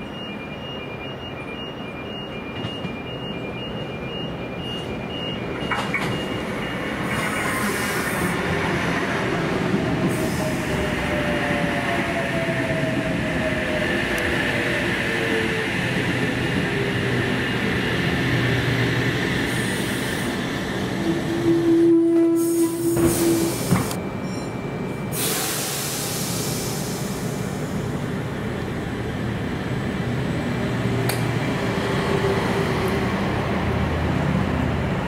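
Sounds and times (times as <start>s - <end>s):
train wheels rumbling on rails: 4.6s - 35.0s.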